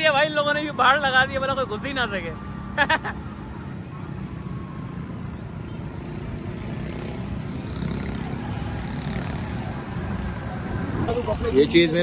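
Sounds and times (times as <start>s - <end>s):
traffic engines rumbling: 0.0s - 12.0s.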